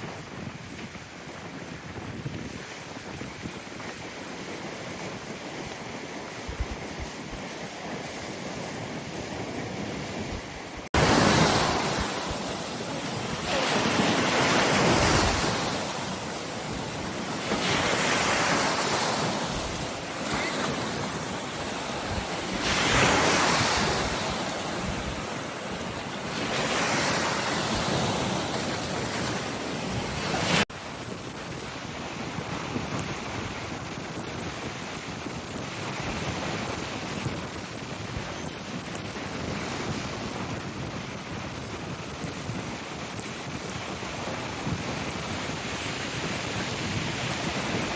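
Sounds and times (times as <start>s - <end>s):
waves breaking on shore: 0.0s - 47.9s
wind buffeting microphone: 0.0s - 47.9s.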